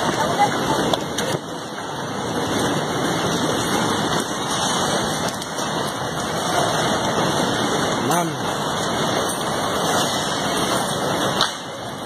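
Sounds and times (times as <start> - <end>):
rain falling on street: 0.0 - 12.0.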